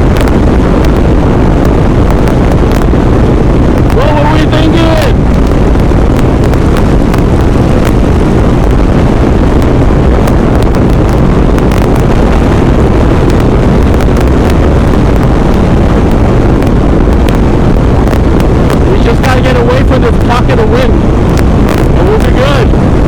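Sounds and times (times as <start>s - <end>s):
buffeting clicks: 0.0s - 23.0s
wind blasting across microphone: 0.0s - 23.0s.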